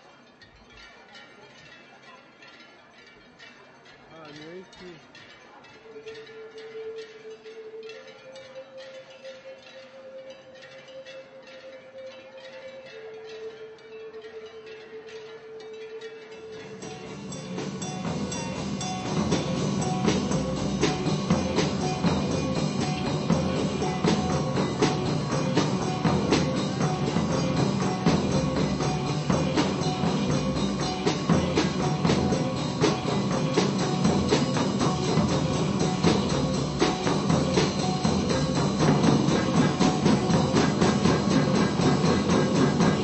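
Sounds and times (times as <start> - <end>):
mechanical percussion music: 0.0 - 43.0.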